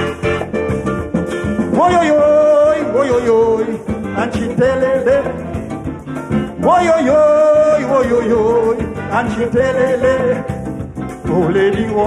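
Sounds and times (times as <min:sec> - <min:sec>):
calypso band playing: 0:00.0 - 0:12.0.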